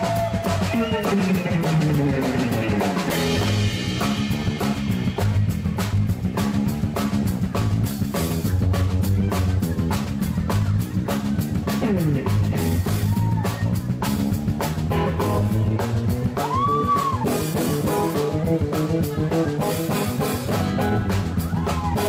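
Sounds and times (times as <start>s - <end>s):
drum kit: 0.0s - 22.0s
electric bass line: 0.0s - 22.0s
live band playing: 0.0s - 22.0s.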